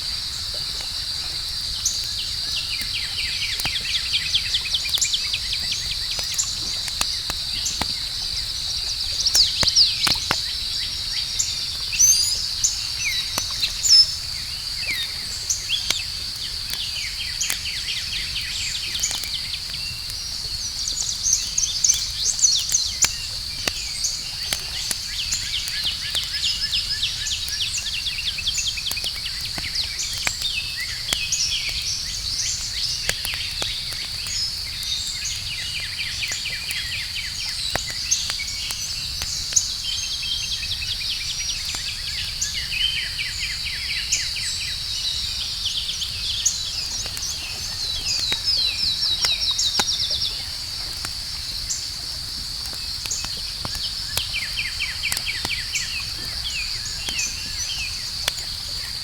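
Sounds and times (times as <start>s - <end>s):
campfire crackling and popping: 0.0s - 59.0s
chorus of night insects: 0.0s - 59.0s.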